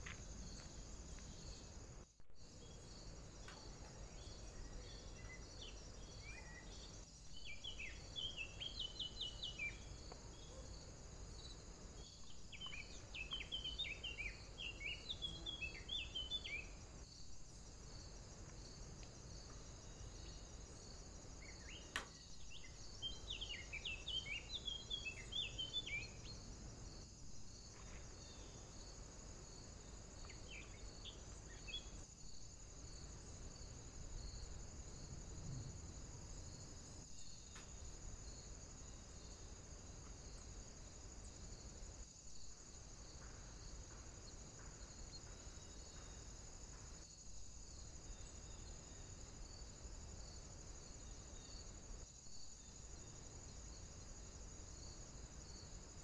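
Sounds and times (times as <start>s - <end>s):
songbird singing: 0.0s - 55.7s.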